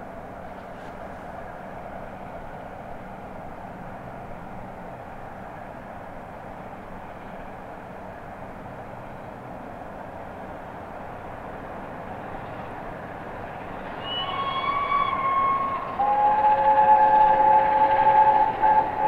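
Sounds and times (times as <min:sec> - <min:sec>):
distant steam locomotive roar: 0:00.0 - 0:19.0.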